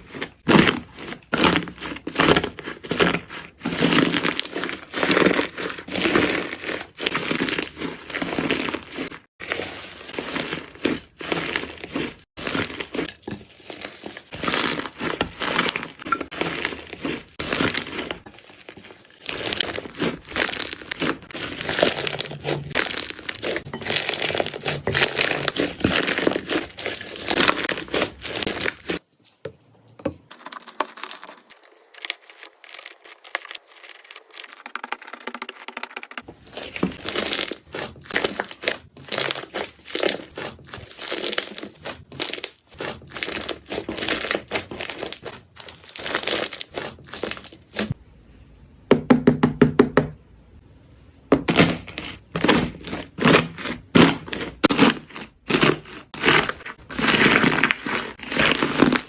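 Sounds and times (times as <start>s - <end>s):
slime crackling and popping: 0.4s - 29.0s, 30.3s - 48.0s, 51.5s - 59.0s.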